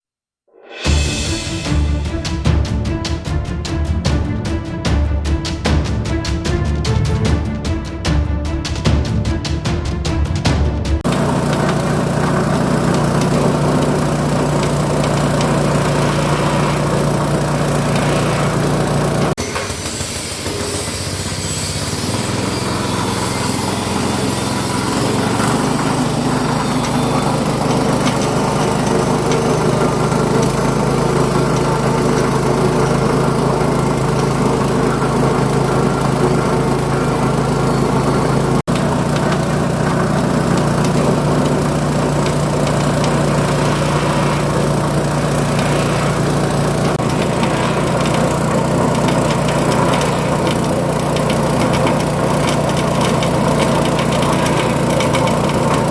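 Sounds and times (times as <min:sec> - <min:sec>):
salt-grinding machine motor hum: 0:10.8 - 0:55.9.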